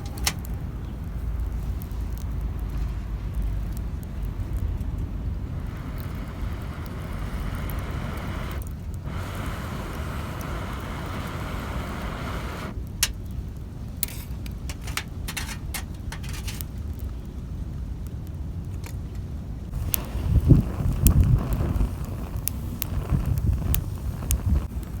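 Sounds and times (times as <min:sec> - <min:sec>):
wind rumbling on microphone: 0:00.0 - 0:12.8, 0:14.7 - 0:25.0
sharp clicks and crackles: 0:00.0 - 0:17.4, 0:18.0 - 0:25.0.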